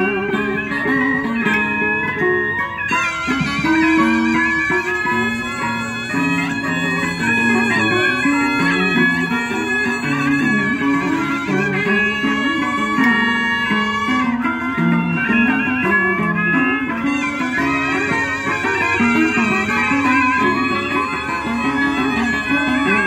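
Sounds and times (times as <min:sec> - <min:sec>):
bamboo flute: 0:00.0 - 0:23.0
bowed two-string fiddle: 0:00.0 - 0:23.0
plucked lute and zither: 0:00.0 - 0:23.0.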